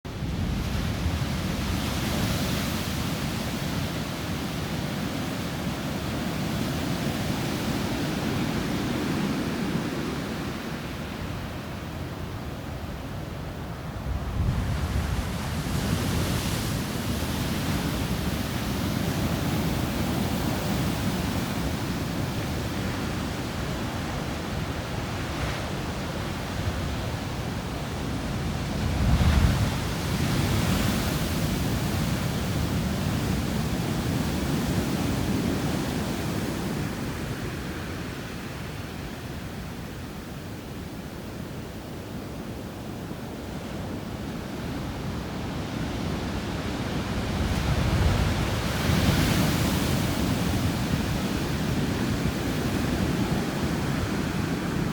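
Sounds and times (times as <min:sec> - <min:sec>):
wind on microphone: 0:00.1 - 0:54.9.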